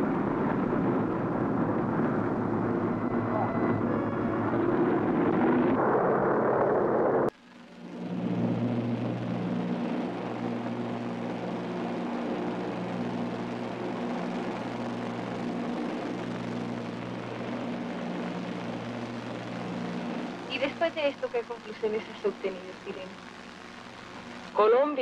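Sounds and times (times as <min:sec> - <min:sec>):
propeller engines droning: 0:00.0 - 0:25.0.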